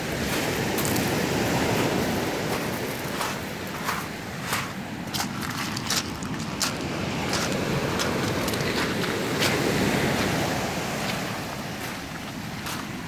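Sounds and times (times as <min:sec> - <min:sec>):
surf washing up pebble beach: 0:00.0 - 0:13.0
footsteps crunching on pebbles: 0:00.2 - 0:13.0.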